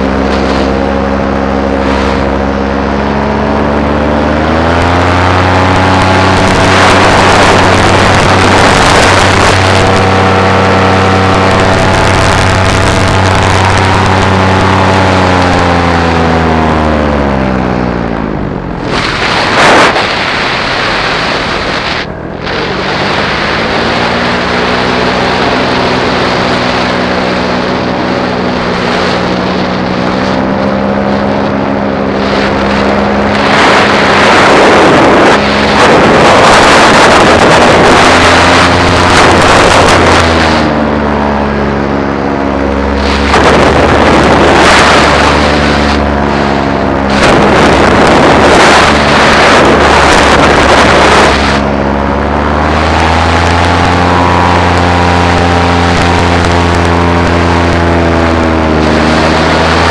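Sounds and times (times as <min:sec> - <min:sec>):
loud rush of noise: 0:00.0 - 0:59.9
paramotor engine running: 0:00.0 - 0:59.9.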